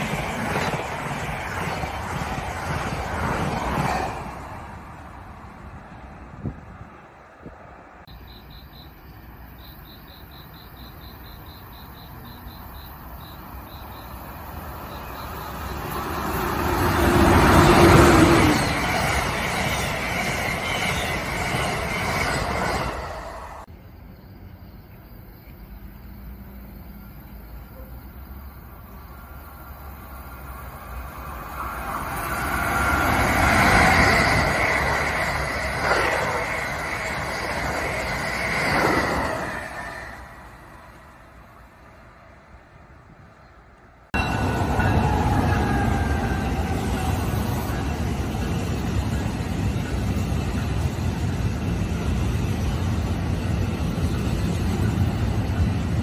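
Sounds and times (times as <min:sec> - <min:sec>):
high-speed train passing: 0:00.0 - 0:56.0
train passing at speed: 0:00.0 - 0:56.0.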